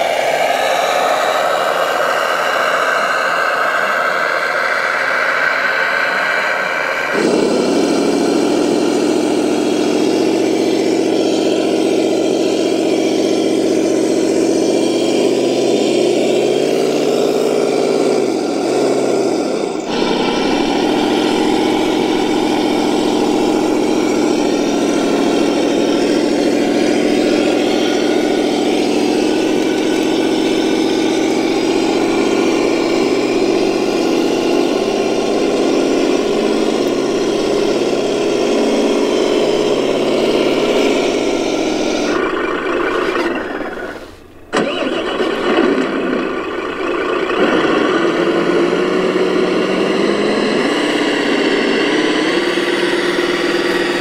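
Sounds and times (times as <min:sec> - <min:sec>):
model truck engine humming: 0:00.0 - 0:54.0.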